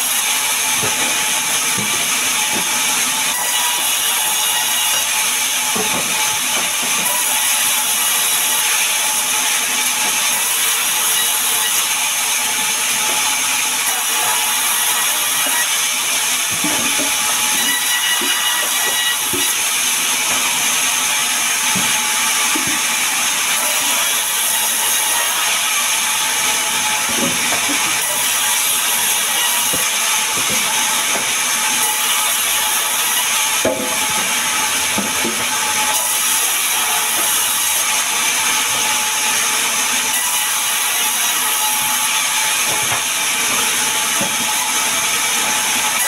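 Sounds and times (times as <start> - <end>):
band saw cutting log: 0.0 - 46.0.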